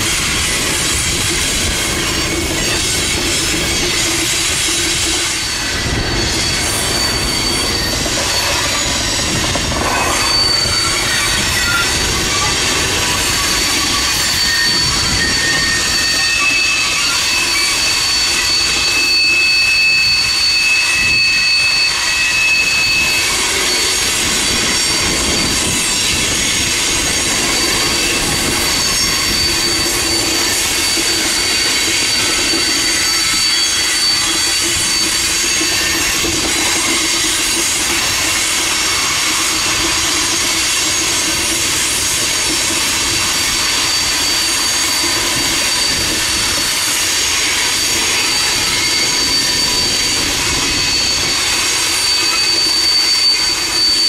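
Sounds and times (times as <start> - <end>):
high wheel squeal: 0.0 - 54.0
lower wheel squeal: 0.0 - 54.0
train cars rolling past: 0.0 - 54.0.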